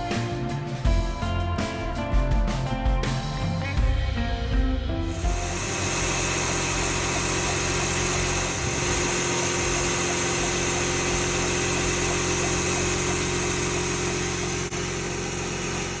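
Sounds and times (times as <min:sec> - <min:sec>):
car engine idling: 0:00.0 - 0:16.0
high-pitched whine: 0:00.0 - 0:16.0.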